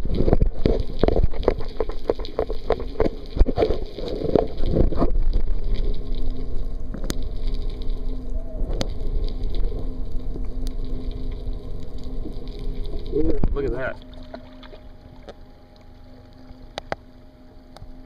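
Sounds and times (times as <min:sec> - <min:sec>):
faint low hum: 0:00.0 - 0:18.0
water sloshing underwater: 0:00.0 - 0:18.0.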